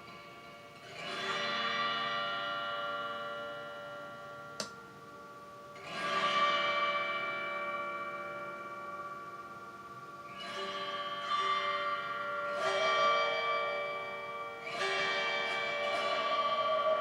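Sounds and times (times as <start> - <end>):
autoharp chords strummed: 0.0 - 17.0.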